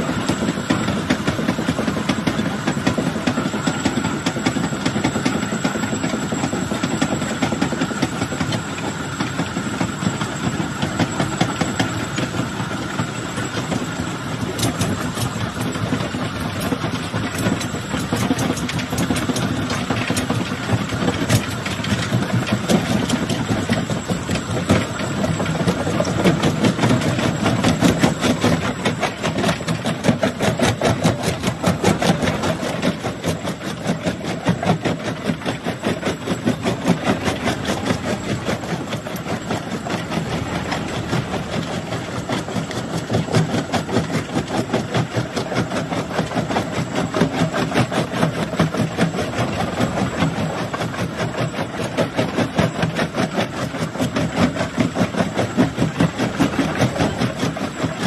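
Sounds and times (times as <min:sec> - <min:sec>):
crusher machine rumble: 0:00.0 - 0:58.0.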